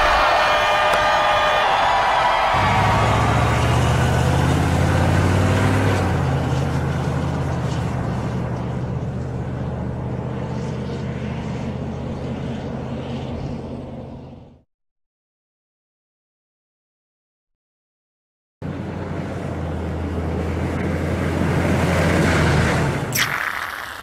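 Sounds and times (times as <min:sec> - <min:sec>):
road noise: 0:00.0 - 0:14.6, 0:18.6 - 0:24.0
vehicle engine hum: 0:00.0 - 0:14.7, 0:18.6 - 0:24.0.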